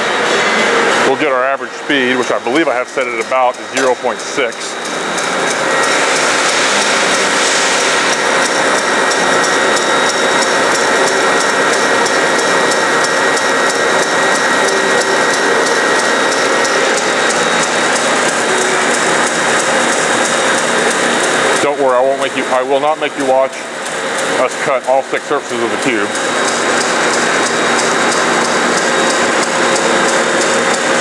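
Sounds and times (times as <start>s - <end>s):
high motor whine: 0.0s - 31.0s.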